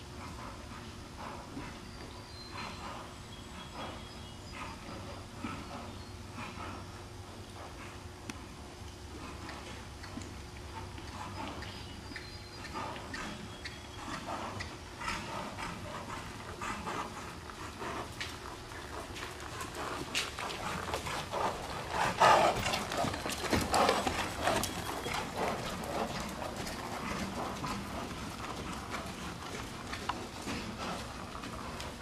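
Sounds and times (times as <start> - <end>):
horse hoofbeats on sand: 0.2 - 32.0.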